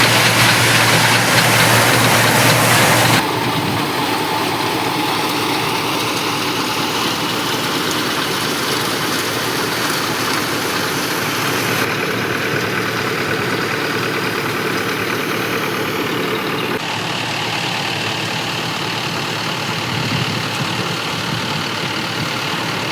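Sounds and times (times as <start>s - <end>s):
thresher machine noise: 0.0s - 22.9s
tractor diesel engine running: 0.0s - 22.9s.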